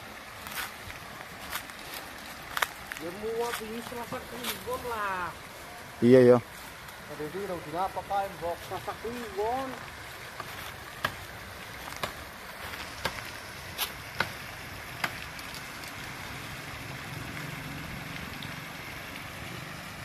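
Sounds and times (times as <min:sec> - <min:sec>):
river water rushing over weir: 0:00.0 - 0:20.0.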